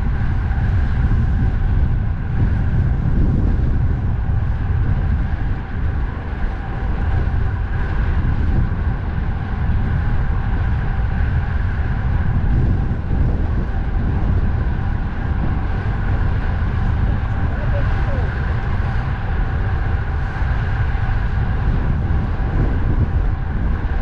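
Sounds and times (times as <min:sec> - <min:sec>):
faint constant whine: 0:00.0 - 0:24.0
wind rumbling on microphone: 0:00.0 - 0:24.0
road and traffic noise: 0:04.3 - 0:24.0.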